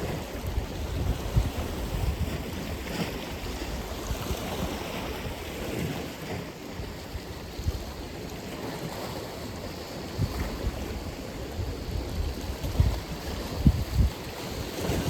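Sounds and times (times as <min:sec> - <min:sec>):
waves breaking on shore: 0:00.0 - 0:15.0
wind rumbling on microphone: 0:00.0 - 0:15.0.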